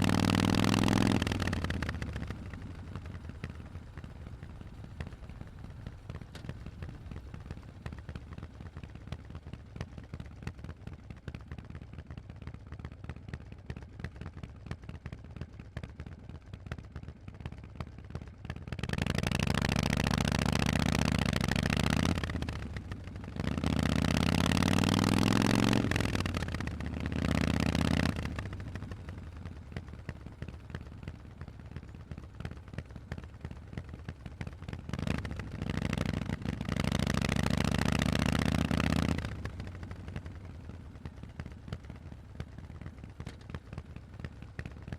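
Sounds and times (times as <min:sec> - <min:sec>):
v-twin motorcycle engine: 0:00.0 - 0:44.9.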